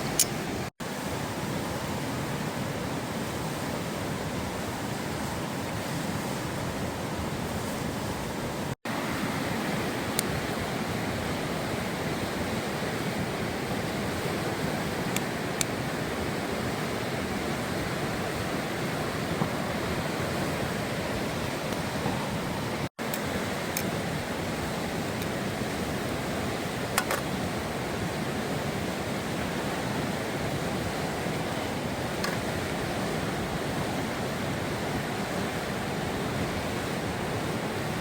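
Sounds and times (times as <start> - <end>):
river flowing: 0.0 - 38.0.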